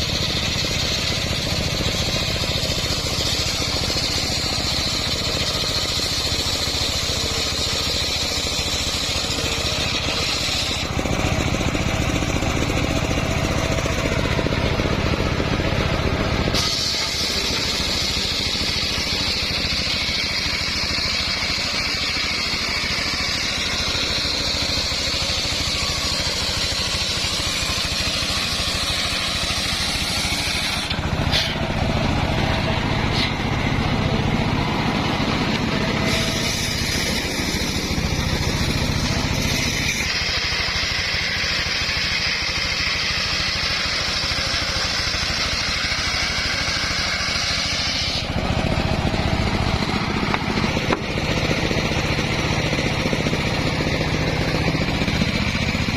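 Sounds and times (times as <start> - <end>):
circular saw blade whine: 0.0 - 55.9
engine drone: 0.0 - 55.9.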